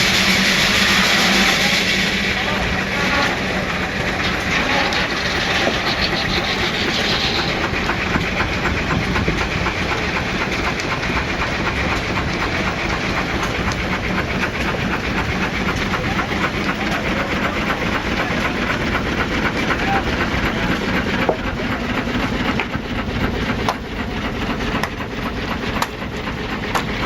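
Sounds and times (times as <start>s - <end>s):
steam engine exhaust chuffing: 0.0s - 27.0s
steam hiss: 0.0s - 27.0s.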